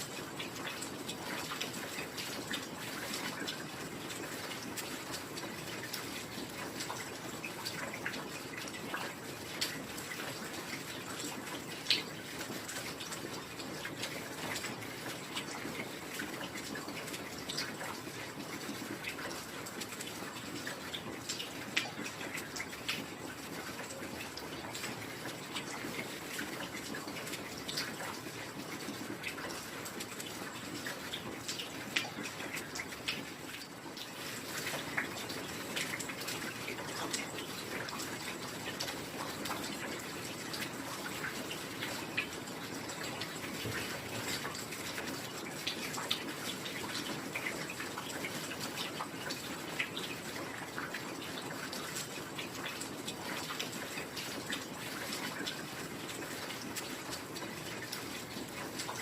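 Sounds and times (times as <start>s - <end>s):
drops and drips pattering: 0.0s - 59.0s.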